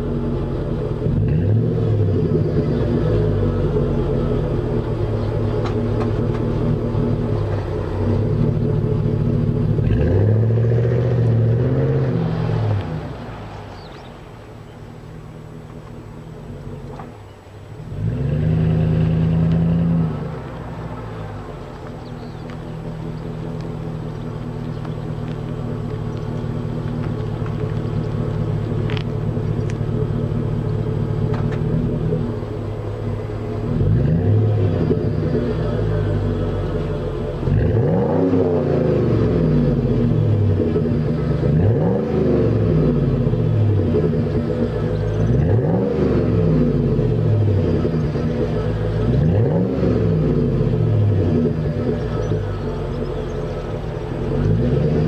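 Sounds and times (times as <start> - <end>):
engine revving: 0.0 - 14.2, 17.8 - 55.0
engine running with deep rumble: 0.0 - 55.0.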